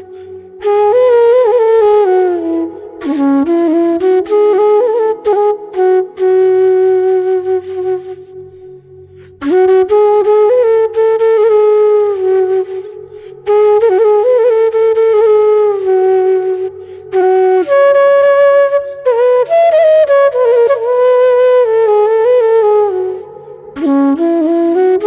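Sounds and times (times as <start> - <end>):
flute melody: 0.0 - 25.0.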